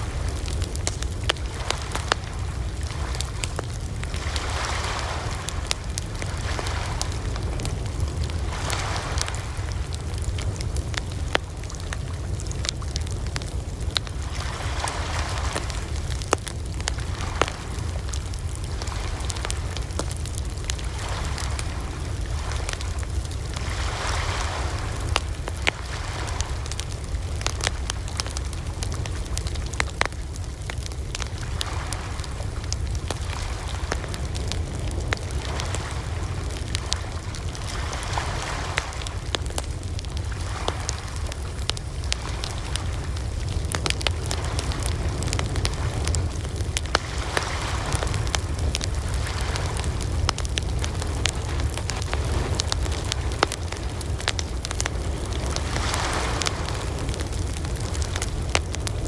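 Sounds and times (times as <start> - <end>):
fire popping: 0.0 - 59.0
steady low rumble: 0.0 - 59.0
wood fire crackling: 0.0 - 59.0.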